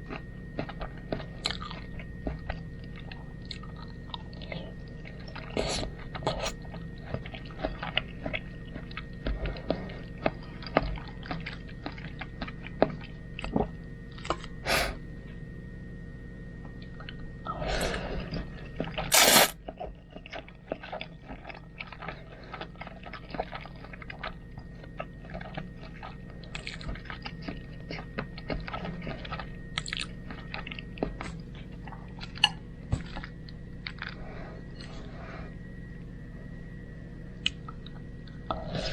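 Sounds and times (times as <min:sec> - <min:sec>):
person chewing food: 0:00.0 - 0:14.5, 0:18.2 - 0:35.2.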